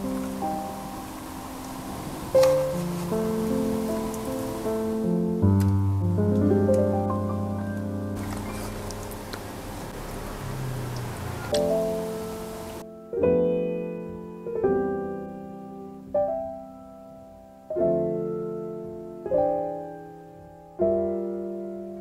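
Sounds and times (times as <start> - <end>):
faint hiss: 0.0 - 22.0
slow piano chords: 0.0 - 22.0.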